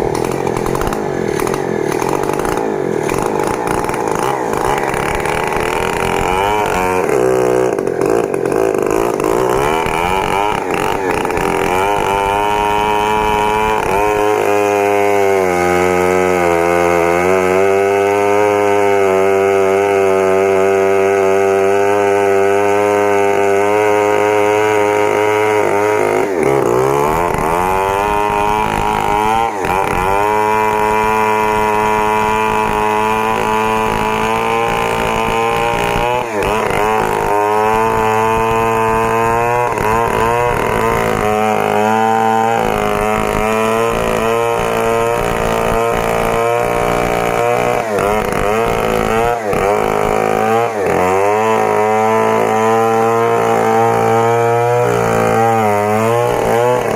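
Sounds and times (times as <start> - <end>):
chainsaw cutting at high revs: 0.0 - 56.9.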